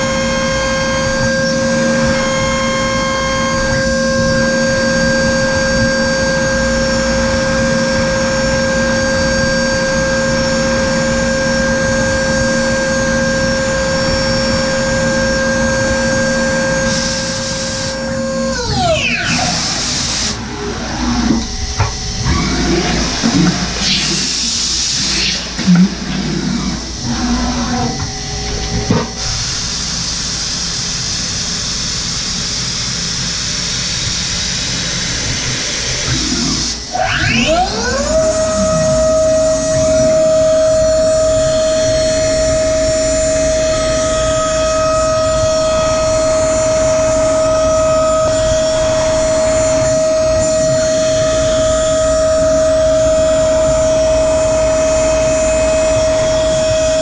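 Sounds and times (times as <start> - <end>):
cnc mill hissing: 0.0 - 57.0
spindle high whine: 0.0 - 57.0.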